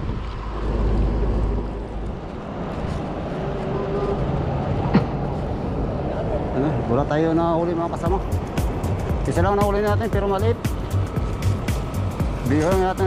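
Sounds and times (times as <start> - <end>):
engine humming: 0.0 - 13.0
wind rumbling on microphone: 0.0 - 13.0.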